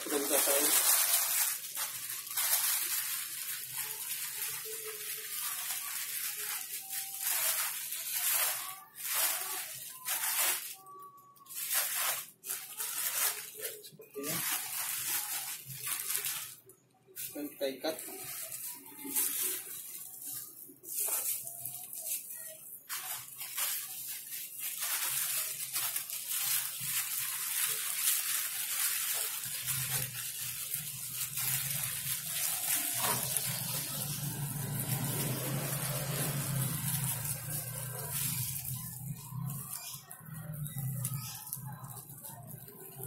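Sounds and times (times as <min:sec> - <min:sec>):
plastic bag crinkling: 0:00.0 - 0:43.0
plastic raffia rustling: 0:00.0 - 0:43.0.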